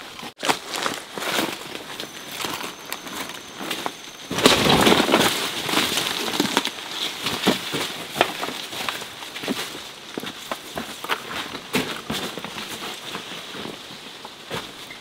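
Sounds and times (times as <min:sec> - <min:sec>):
dry plant rustling and snapping: 0:00.4 - 0:14.3.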